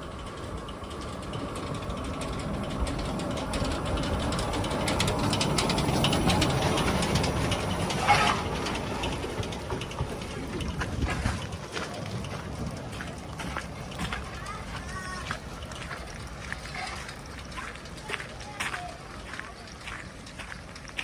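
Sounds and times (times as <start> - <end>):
steam locomotive running: 0.0 - 21.0
wheels clicking over rails: 0.0 - 21.0.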